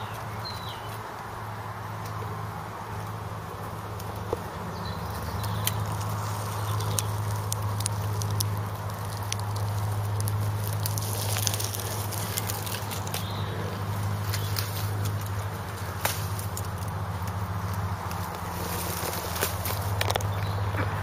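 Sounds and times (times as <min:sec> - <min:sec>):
twigs rustling and crackling: 0:02.8 - 0:21.0
twigs snapping: 0:03.9 - 0:20.9.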